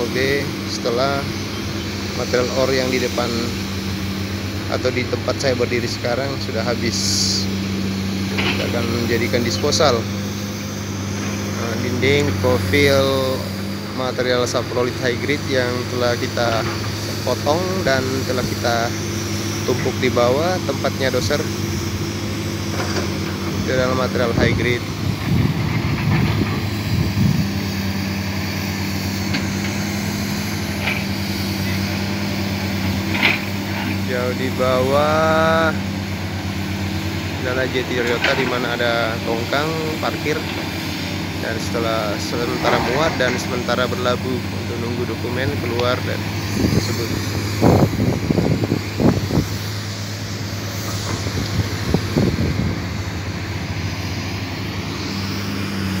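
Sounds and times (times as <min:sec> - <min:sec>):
excavator diesel engines droning: 0:00.0 - 0:56.0.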